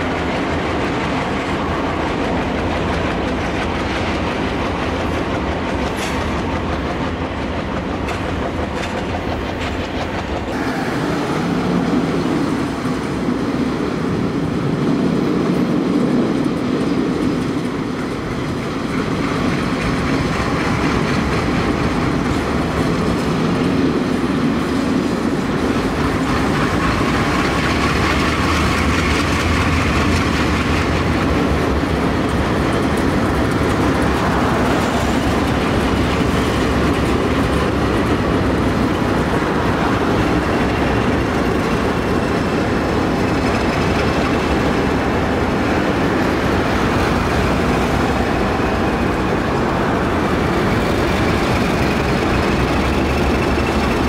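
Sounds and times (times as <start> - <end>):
diesel locomotive engines: 0.0 - 54.0
wheels rumbling on rail: 0.0 - 54.0.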